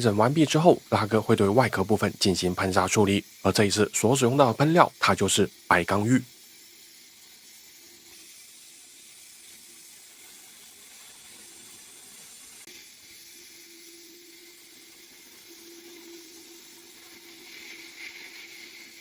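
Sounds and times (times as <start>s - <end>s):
sandblasting nozzle hiss: 0.0s - 19.0s.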